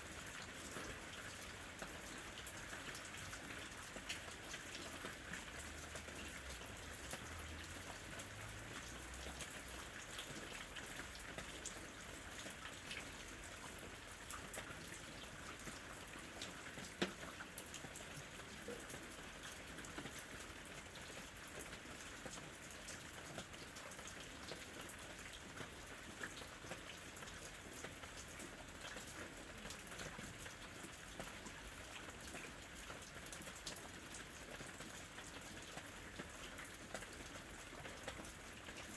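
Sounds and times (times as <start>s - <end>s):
steady rain on a surface: 0.0s - 38.9s.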